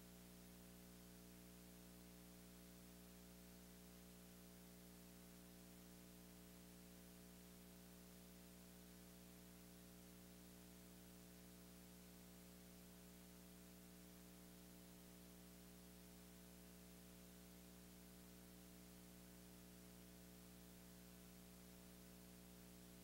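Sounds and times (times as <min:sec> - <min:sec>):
faint steady hum with hiss: 0:00.0 - 0:23.0.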